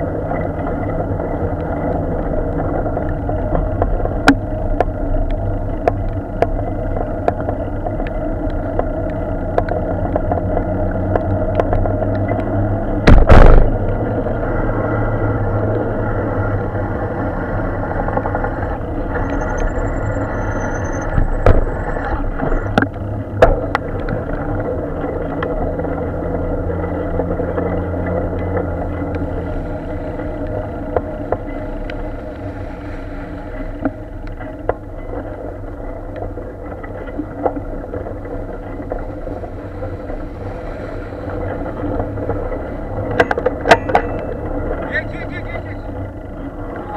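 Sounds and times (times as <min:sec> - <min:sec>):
sharp rattles and clicks: 0:00.0 - 0:14.0, 0:17.8 - 0:32.6, 0:33.5 - 0:46.9
bicycle riding rumble: 0:00.0 - 0:46.9
passing traffic: 0:00.0 - 0:46.9.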